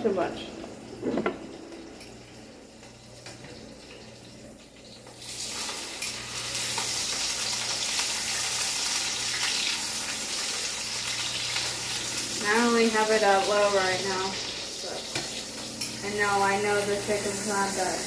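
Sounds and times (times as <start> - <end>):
chicken sizzling in a pan: 0.0 - 18.0.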